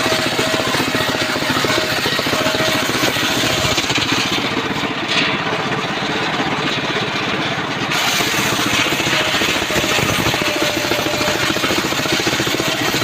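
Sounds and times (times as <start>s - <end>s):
portable sawmill engine running: 0.0s - 13.0s.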